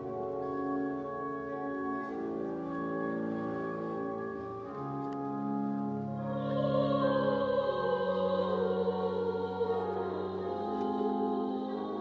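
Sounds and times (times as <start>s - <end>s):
pipe organ chords: 0.0s - 12.0s.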